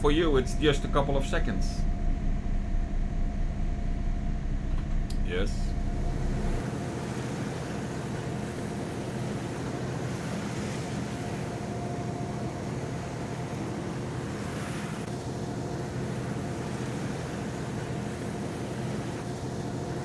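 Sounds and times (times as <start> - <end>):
boat engine droning: 0.0 - 20.0
wind: 0.0 - 20.0.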